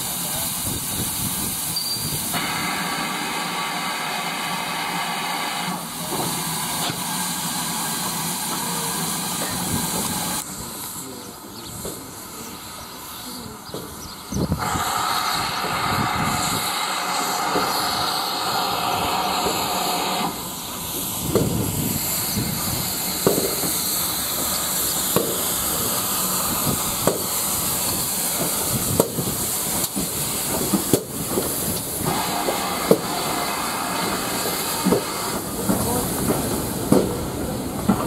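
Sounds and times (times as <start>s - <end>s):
steam locomotive hissing: 0.0s - 38.0s
train knocks and clanks: 0.0s - 38.0s.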